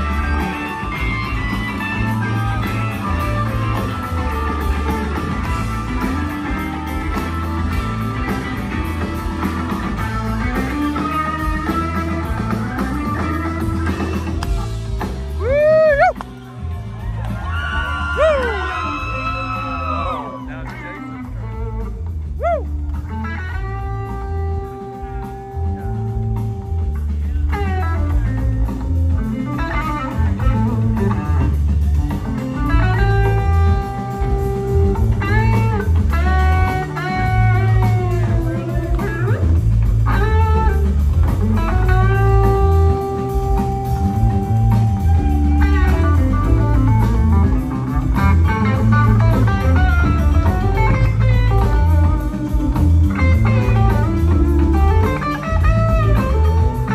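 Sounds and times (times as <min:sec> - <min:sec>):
electric guitar lead bending notes: 0:00.0 - 0:16.0, 0:20.6 - 0:56.9
live blues-rock band: 0:00.0 - 0:56.9.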